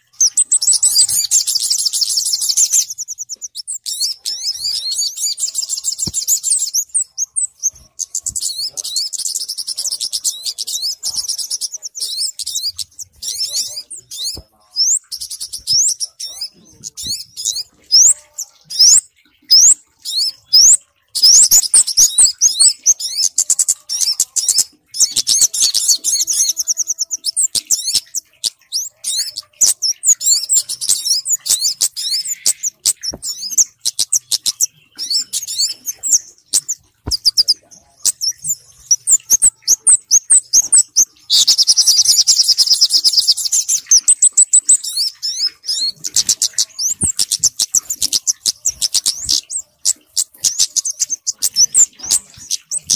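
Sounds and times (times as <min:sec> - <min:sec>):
high-pitched bird chirps and trills: 0:00.0 - 0:52.9.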